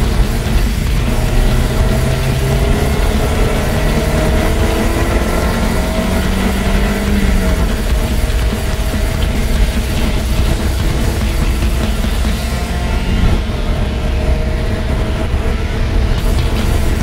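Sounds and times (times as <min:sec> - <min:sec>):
tyres hissing on wet track: 0:00.0 - 0:13.1, 0:15.4 - 0:17.0
car engine revving: 0:00.0 - 0:17.0.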